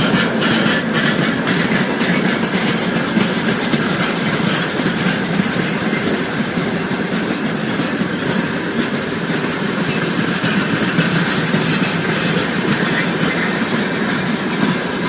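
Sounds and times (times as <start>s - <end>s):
freight train rumbling: 0.0s - 15.0s
wheels clattering over rail joints: 0.0s - 15.0s.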